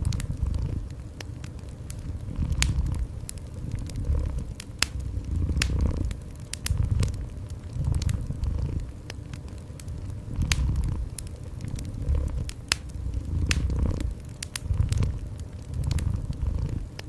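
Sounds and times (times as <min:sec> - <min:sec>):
cat purring: 0:00.0 - 0:01.0, 0:01.9 - 0:09.0, 0:09.8 - 0:17.0
wood fire crackling and popping: 0:00.0 - 0:17.0.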